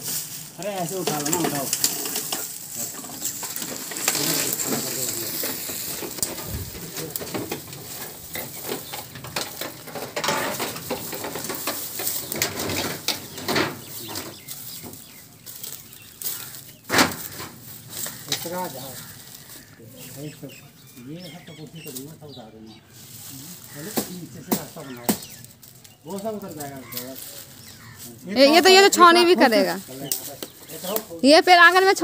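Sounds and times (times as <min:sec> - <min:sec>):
brush crackling and snapping: 0:00.0 - 0:22.4, 0:23.0 - 0:32.0.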